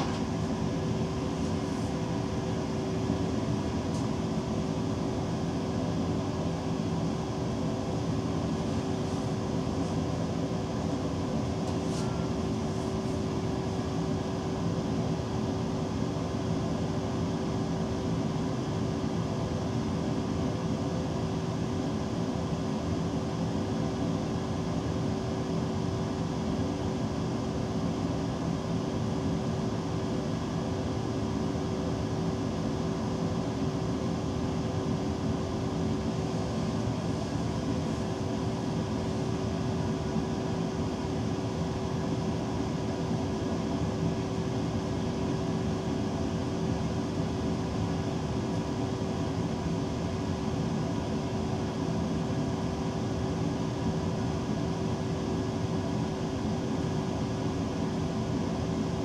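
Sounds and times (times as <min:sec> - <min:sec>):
train cab hum and fan noise: 0:00.0 - 0:59.0.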